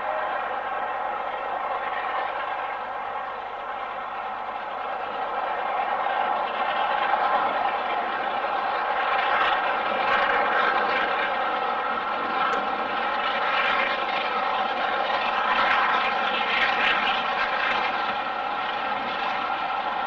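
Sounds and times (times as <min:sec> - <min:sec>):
steam locomotive working hard: 0:00.0 - 0:20.0.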